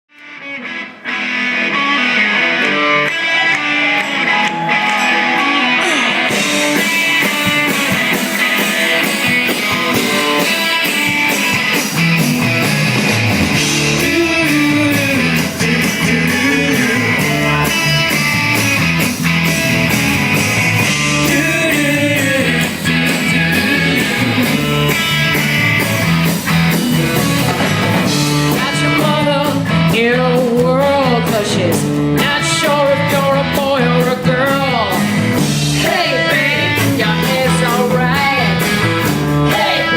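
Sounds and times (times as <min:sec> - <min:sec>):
live rock band playing: 0:00.1 - 0:39.9.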